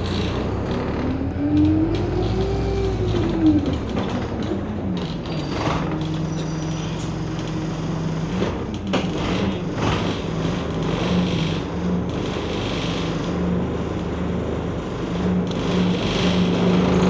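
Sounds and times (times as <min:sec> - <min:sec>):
bus body rattling: 0:00.0 - 0:17.0
bus engine hum: 0:00.0 - 0:17.0.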